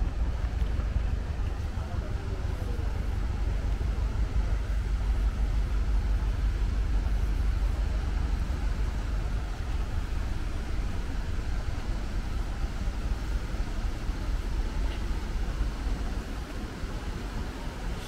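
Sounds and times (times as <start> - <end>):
low rumble: 0.0 - 16.4
continuous hiss: 0.0 - 18.0.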